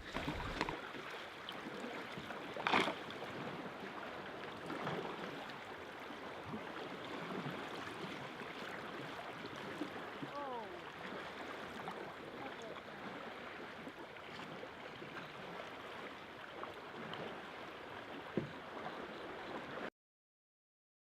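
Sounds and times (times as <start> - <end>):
small water splashes: 0.0 - 19.9
water lapping: 0.0 - 19.9.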